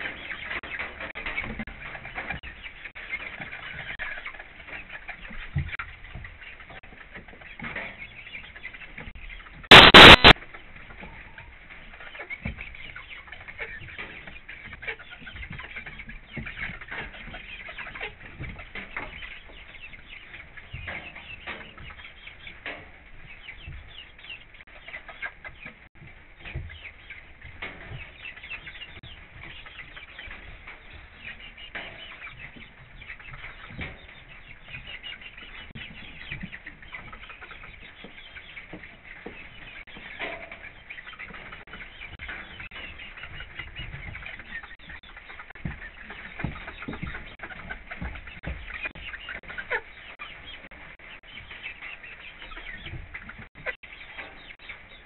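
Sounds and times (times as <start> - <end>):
hens clucking: 0.0 - 55.0
rain pattering on coop: 0.0 - 55.0.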